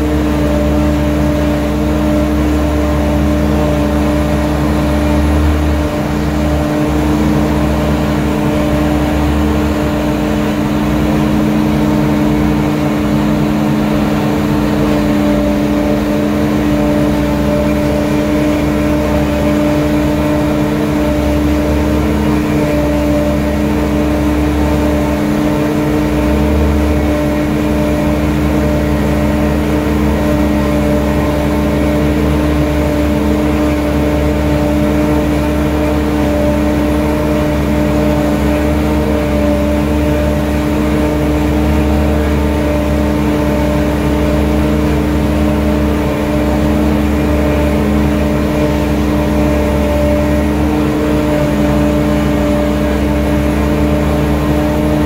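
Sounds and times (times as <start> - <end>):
deep engine rumble: 0.0 - 55.0
harvester machine hum: 0.0 - 55.0.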